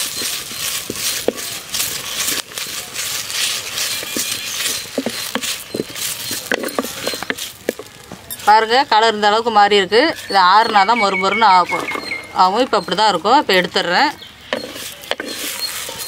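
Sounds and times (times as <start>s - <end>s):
leaves rustling in pot: 0.0s - 16.0s
wooden spatula scraping pot: 0.0s - 16.0s.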